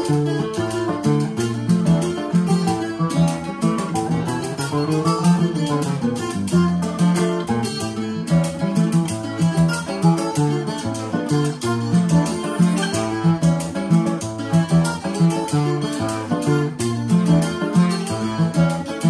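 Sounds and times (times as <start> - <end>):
maracas shaking: 0.0 - 19.0
plucked string melody: 0.0 - 19.0
strummed acoustic guitar: 0.0 - 19.0.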